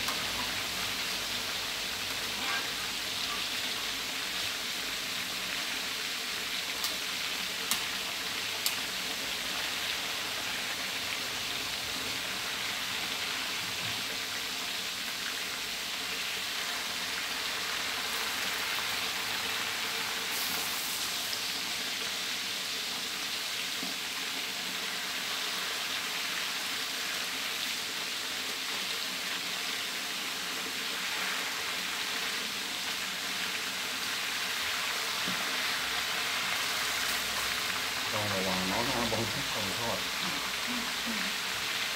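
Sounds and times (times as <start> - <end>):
fish deep-frying in hot oil: 0.0 - 41.9.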